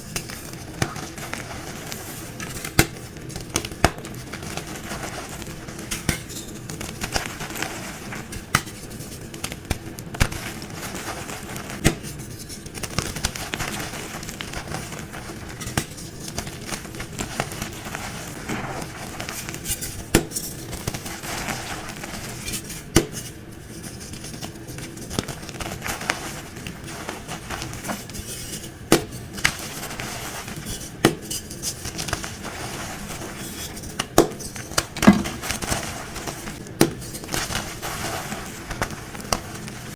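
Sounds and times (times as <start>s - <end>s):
chalk crunching and crackling: 0.0s - 39.9s.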